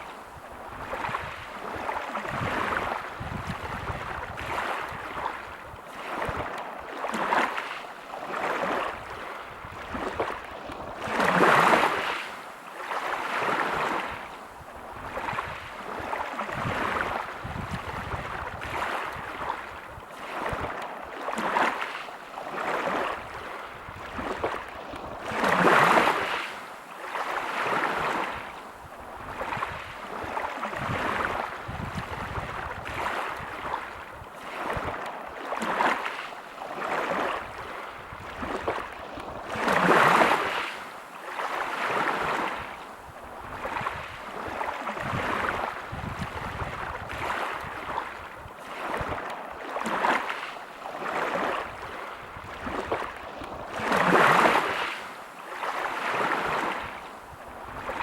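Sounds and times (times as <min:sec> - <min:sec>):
waves breaking on pebble beach: 0:00.8 - 0:14.2, 0:15.0 - 0:28.5, 0:29.3 - 0:42.8, 0:43.4 - 0:58.0.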